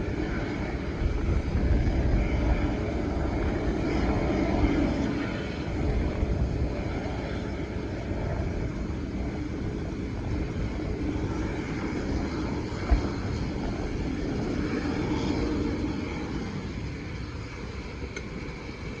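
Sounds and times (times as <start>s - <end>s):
aircraft engines running: 0.0s - 19.0s.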